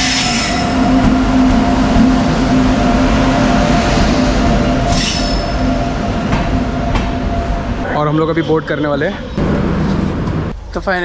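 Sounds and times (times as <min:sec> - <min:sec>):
wheels rumbling: 0:00.0 - 0:10.7
electric locomotive humming: 0:00.0 - 0:11.0.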